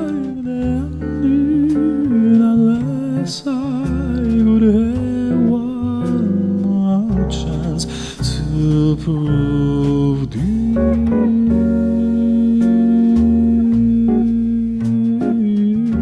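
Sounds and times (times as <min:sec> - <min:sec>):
guitar: 0:00.0 - 0:16.0
low bass notes: 0:00.0 - 0:16.0
person singing slow melody: 0:00.0 - 0:16.0.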